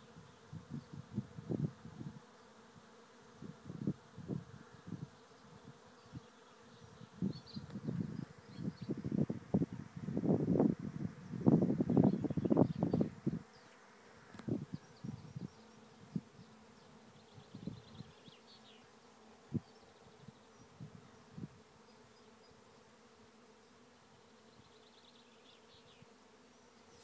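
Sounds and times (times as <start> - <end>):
single bees buzzing past: 0.0 - 27.0
swarm of bees humming: 0.0 - 27.0.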